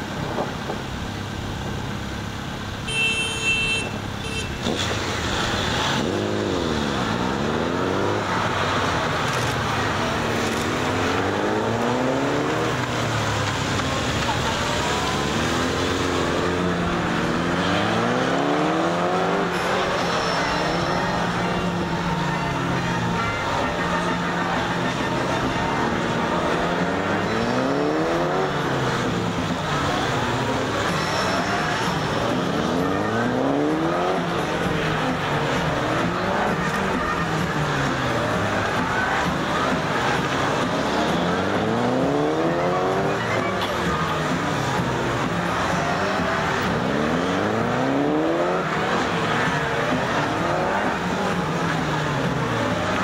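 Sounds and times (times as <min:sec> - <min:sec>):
motorcycle engines revving: 0:03.7 - 0:53.0.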